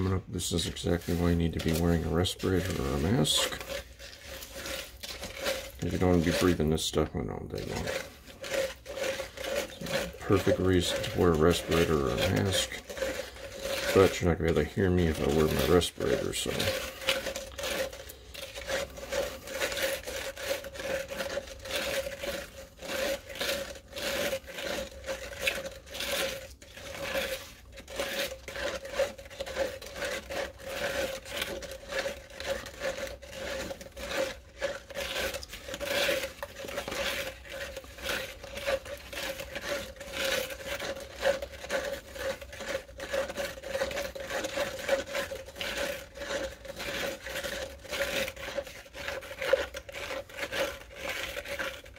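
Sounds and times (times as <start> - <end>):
stir stick scraping plastic cup: 0.0 - 51.9.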